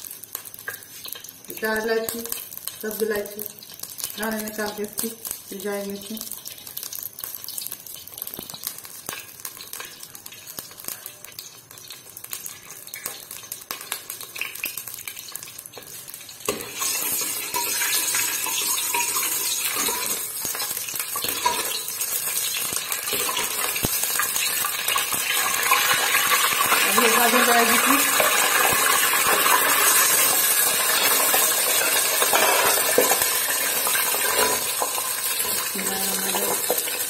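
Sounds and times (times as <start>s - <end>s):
cardamom pods sizzling in oil: 0.0s - 37.0s.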